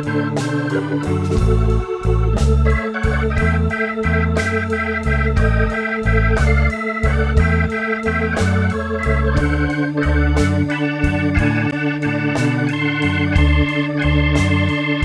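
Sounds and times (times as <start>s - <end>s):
instrumental blues music: 0.0s - 15.0s.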